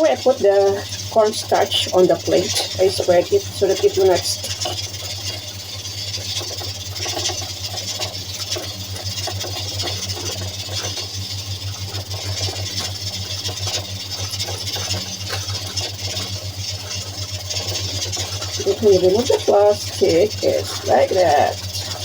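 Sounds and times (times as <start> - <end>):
faint clicks and knocks: 0.0 - 22.0
steady low hum: 0.0 - 22.0.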